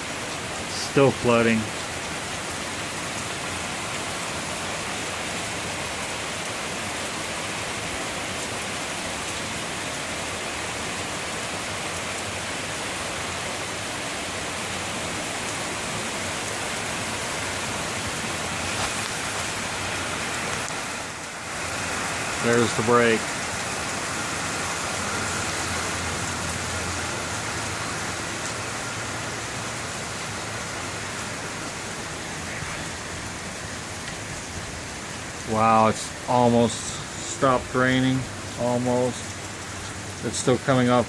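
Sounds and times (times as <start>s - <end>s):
heavy rain pouring: 0.0s - 41.0s
water running off roof: 0.0s - 41.0s.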